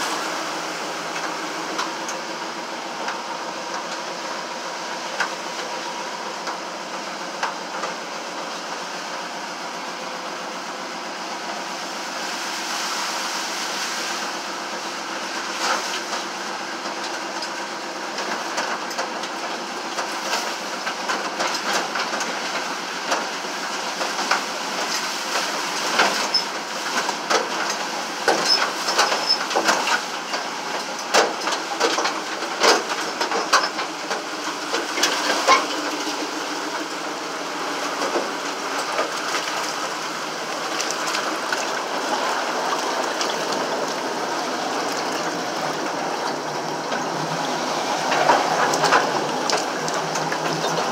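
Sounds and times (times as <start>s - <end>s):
engine and road noise: 0.0s - 50.9s.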